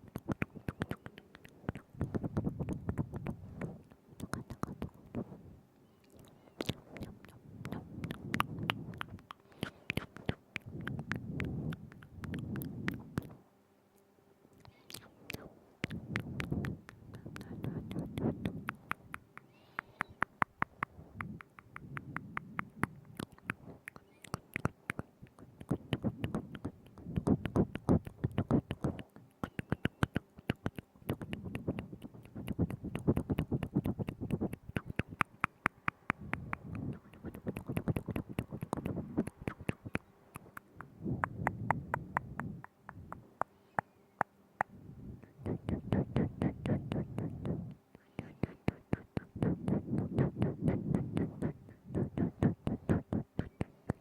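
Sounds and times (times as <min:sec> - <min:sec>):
tongue and lip clicks: 0:00.0 - 0:05.4, 0:06.0 - 0:13.4, 0:14.6 - 0:54.0.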